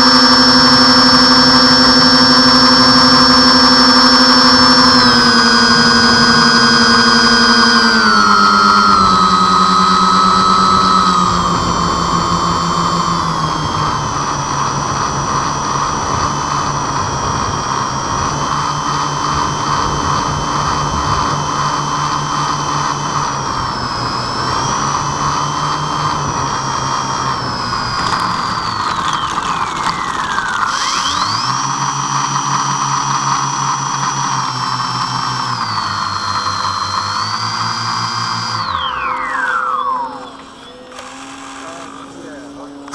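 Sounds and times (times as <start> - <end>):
electric motors and propellers whining: 0.0 - 42.9.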